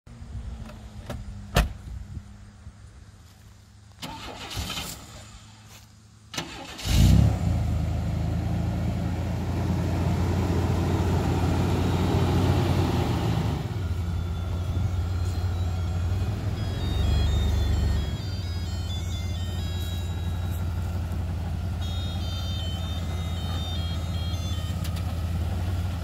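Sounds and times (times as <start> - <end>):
truck engine cranking and idling: 3.8 - 26.0.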